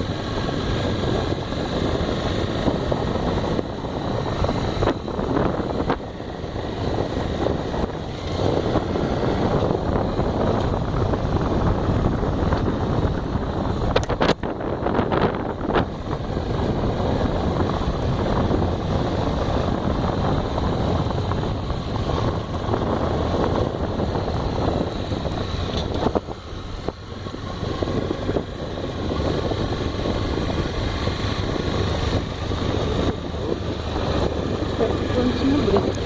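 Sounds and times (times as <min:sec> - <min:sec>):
motorcycle engine running: 0:00.0 - 0:36.0
wind buffeting microphone: 0:00.0 - 0:36.0.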